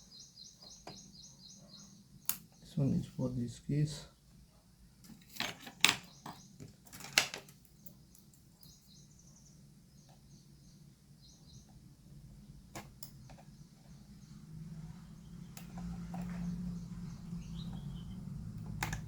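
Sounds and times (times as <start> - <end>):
faint bird chirps: 0.0 - 4.7, 7.7 - 19.0.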